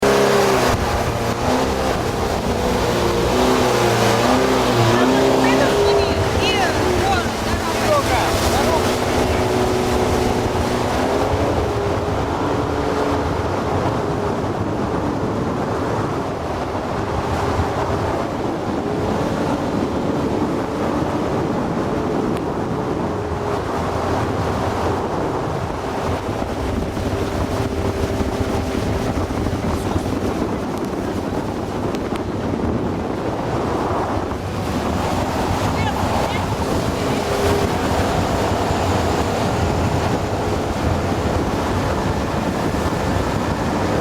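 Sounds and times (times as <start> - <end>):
outboard motor humming: 0.0 - 44.0
water rushing: 0.0 - 44.0
wind buffeting microphone: 0.0 - 44.0.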